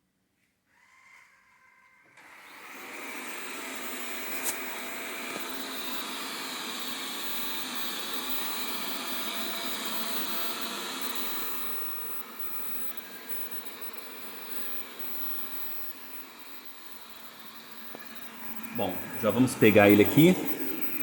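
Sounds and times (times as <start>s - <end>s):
robot vacuum fan hissing: 2.2s - 21.0s.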